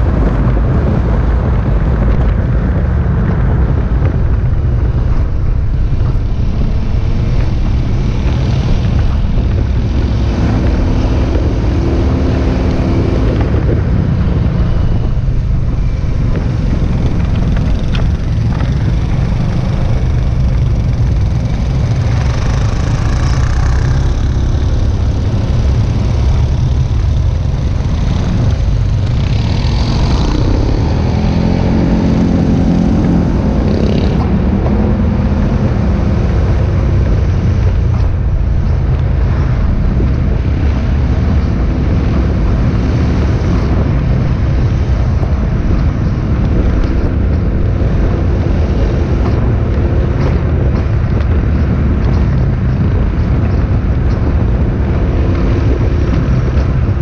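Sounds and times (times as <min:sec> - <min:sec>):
motorcycle passing close: 0:00.0 - 0:57.0
motorcycles riding past: 0:05.2 - 0:57.0.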